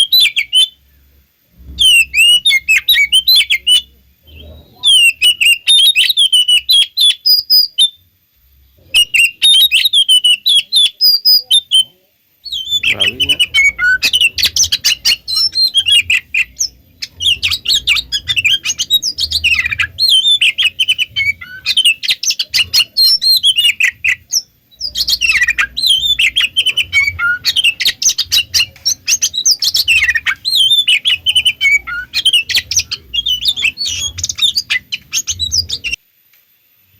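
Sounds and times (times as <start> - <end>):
bird singing chirps and trills: 0.0 - 8.0, 8.8 - 36.0.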